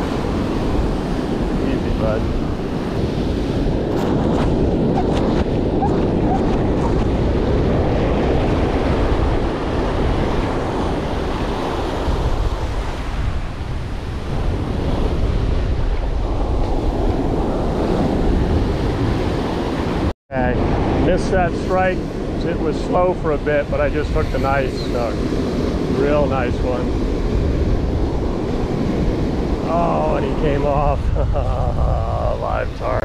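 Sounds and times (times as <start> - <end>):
ocean surf breaking on sand: 0.0 - 33.0
wind buffeting microphone: 0.0 - 33.0.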